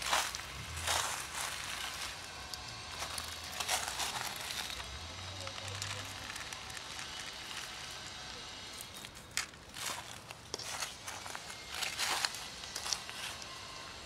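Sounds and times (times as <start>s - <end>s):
rustling of dry leaves: 0.0s - 14.0s.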